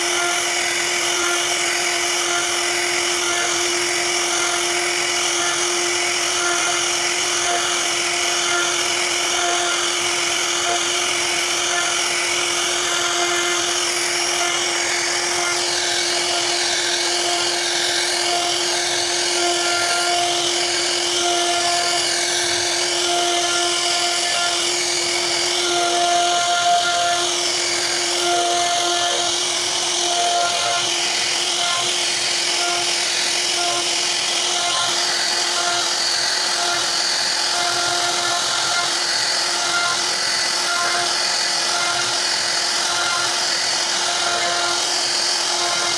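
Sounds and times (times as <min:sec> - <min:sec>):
router spindle whine: 0:00.0 - 0:45.9.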